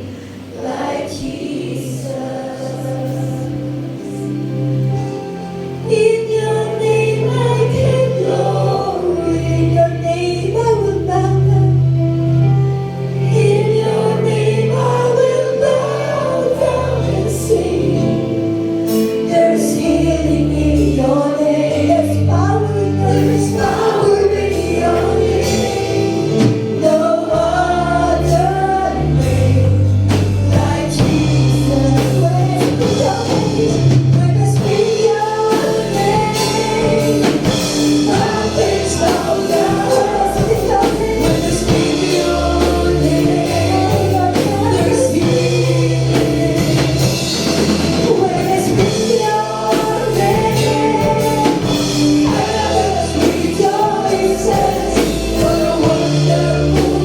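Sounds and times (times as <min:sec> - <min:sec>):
people singing: 0:00.0 - 0:05.1, 0:05.8 - 0:12.0, 0:13.1 - 0:57.0
drums: 0:00.0 - 0:57.0
bass guitar: 0:02.0 - 0:57.0.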